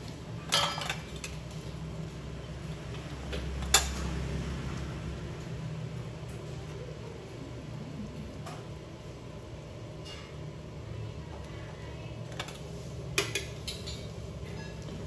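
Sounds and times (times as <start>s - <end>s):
electric fan humming: 0.0s - 15.0s.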